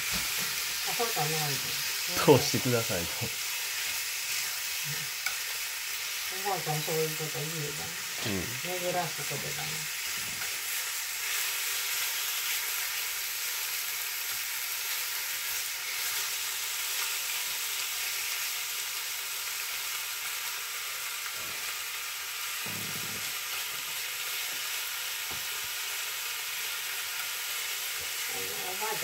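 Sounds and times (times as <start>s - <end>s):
meat and vegetables sizzling in a pan: 0.0s - 29.0s.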